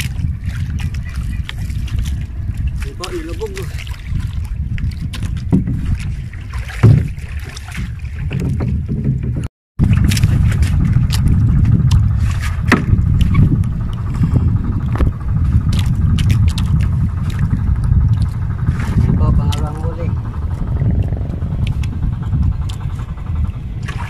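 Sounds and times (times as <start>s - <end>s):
water slapping against boat: 0.0s - 24.0s
wind buffeting microphone: 0.0s - 24.0s.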